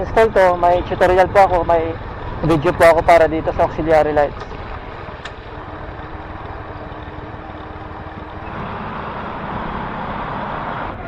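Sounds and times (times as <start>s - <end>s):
road and wind noise: 0.0s - 11.0s
small motorcycle engine running: 0.0s - 11.0s.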